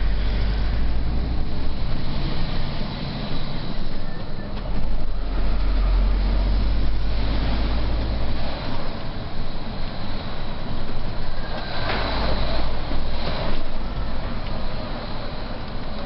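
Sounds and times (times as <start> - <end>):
road and cab noise: 0.0 - 16.0
truck diesel engine drone: 0.0 - 16.0.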